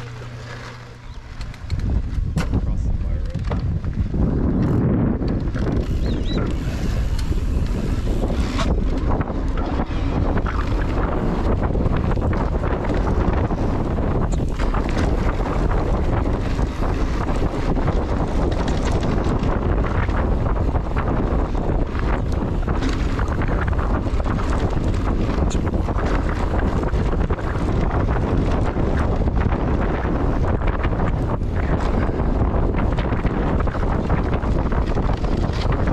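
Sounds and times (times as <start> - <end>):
bike knocks and rattles: 0.0 - 35.9
low rumble: 0.0 - 35.9
wind rushing over microphone: 0.0 - 35.9.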